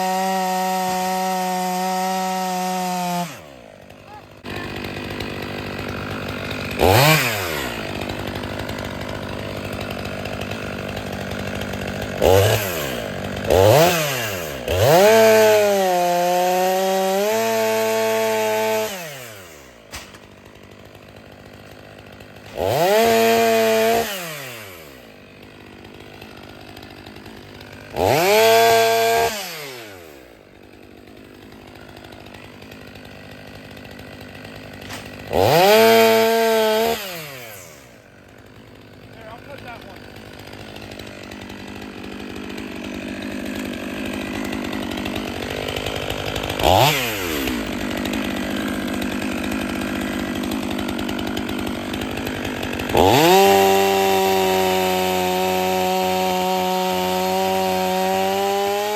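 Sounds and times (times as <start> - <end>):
chainsaw idling and revving: 0.0 - 58.9.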